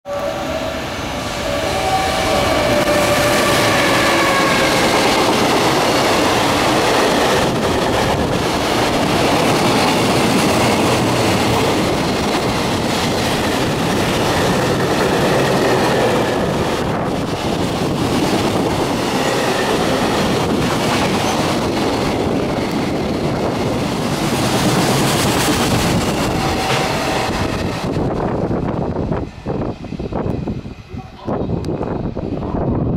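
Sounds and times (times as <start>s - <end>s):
freight train wheels rumbling on rails: 0.1s - 32.9s
locomotive whine: 0.1s - 32.9s.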